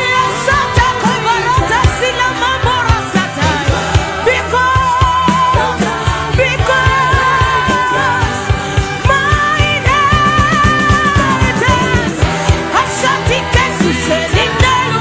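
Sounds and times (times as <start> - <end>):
band with drums and bass: 0.0 - 15.0
person singing: 0.0 - 15.0.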